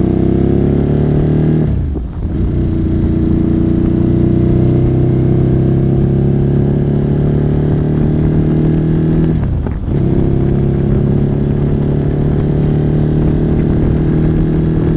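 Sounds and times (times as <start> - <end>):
motorcycle engine at steady revs: 0.0 - 14.9.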